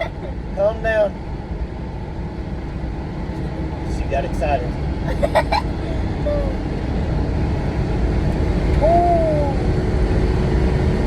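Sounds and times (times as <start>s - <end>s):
truck road and engine rumble: 0.0s - 11.0s.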